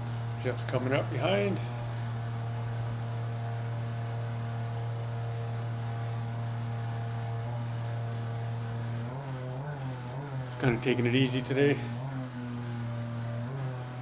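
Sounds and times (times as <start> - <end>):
jet boat motor running: 0.0 - 14.0.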